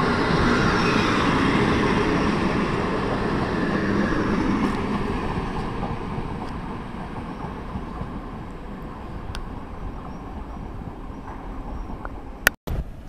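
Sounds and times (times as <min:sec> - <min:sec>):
train wheels rumbling past: 0:00.0 - 0:12.4.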